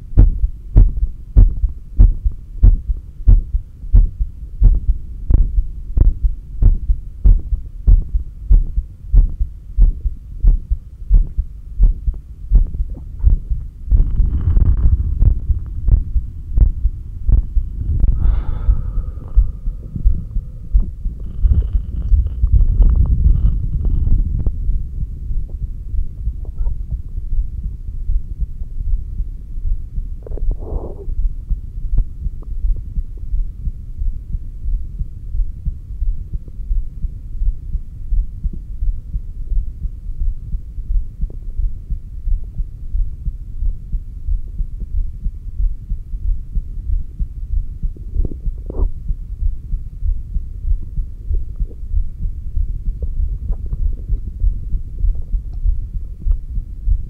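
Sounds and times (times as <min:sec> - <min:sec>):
heartbeat thumping: 0:00.0 - 0:57.0.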